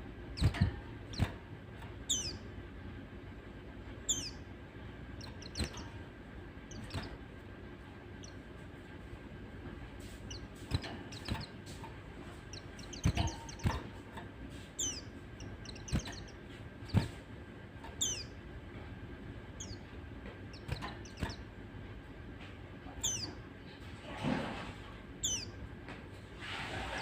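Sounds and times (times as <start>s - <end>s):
birds chirping: 0.0s - 23.9s, 25.1s - 25.9s.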